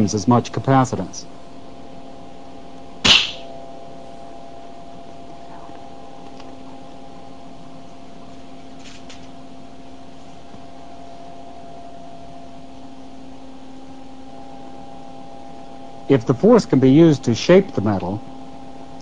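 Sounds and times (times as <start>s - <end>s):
low electrical hum with hiss: 0.0s - 19.0s.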